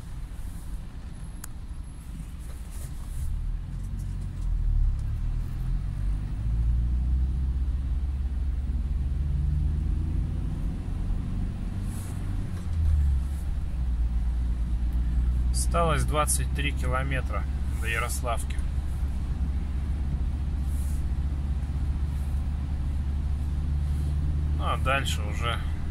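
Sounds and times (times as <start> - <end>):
car engine rumbling: 0.0 - 25.9
road noise: 0.0 - 25.9.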